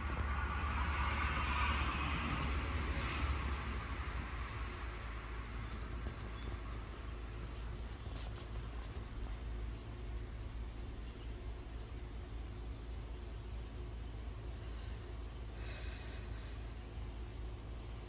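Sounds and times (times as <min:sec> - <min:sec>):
cricket chirping: 0:00.0 - 0:18.0
low steady rumble: 0:00.0 - 0:18.0.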